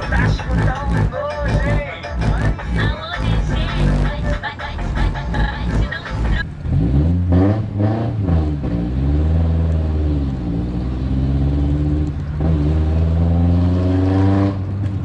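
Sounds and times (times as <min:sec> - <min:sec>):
pickup engine accelerating hard: 0:00.0 - 0:15.0.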